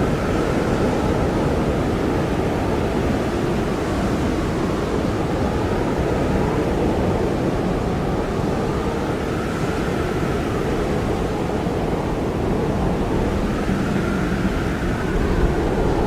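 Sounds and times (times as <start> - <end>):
blizzard wind blowing hard: 0.0 - 16.0.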